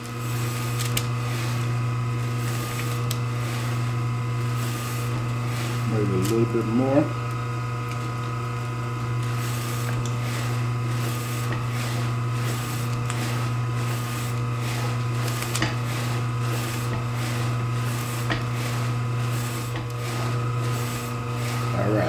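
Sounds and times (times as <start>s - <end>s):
slicer motor humming: 0.0s - 22.0s.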